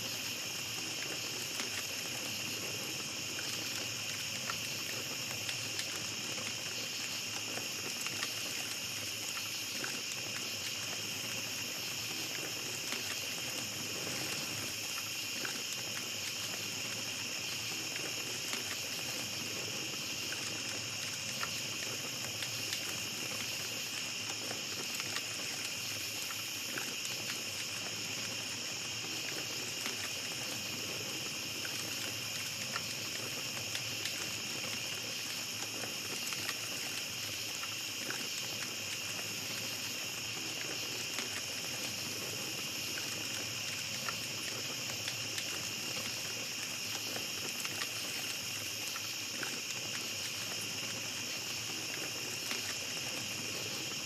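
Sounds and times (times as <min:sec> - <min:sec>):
campfire crackling: 0:00.0 - 0:54.0
night insects chorus: 0:00.0 - 0:54.0.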